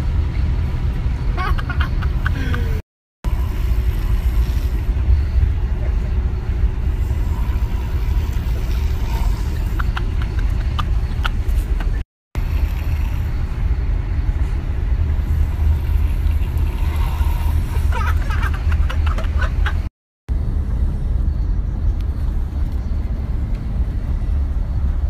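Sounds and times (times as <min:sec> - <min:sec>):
bus rumbling from inside: 0:00.0 - 0:25.0.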